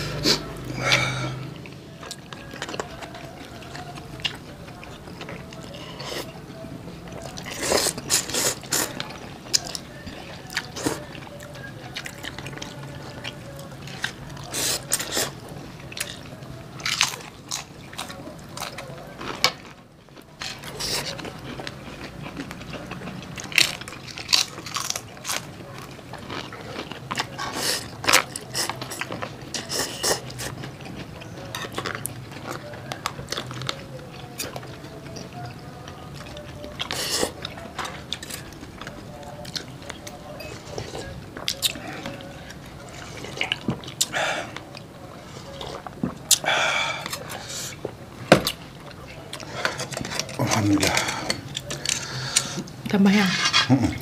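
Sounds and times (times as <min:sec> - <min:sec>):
crunchy bites and chewing: 0:07.1 - 0:52.7.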